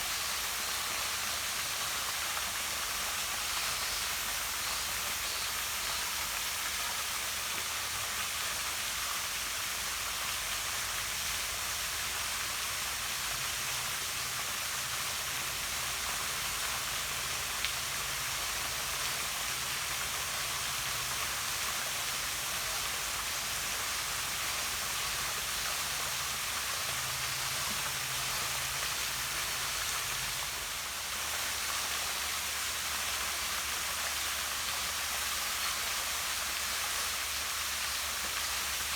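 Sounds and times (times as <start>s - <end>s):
waterfall splashing into pond: 0.0s - 38.9s.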